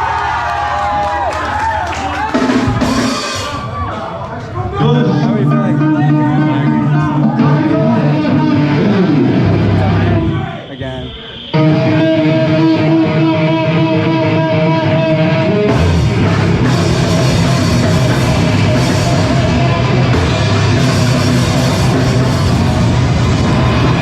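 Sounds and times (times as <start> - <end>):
rock band playing loud: 2.0 - 4.1, 4.8 - 10.5, 11.5 - 24.0.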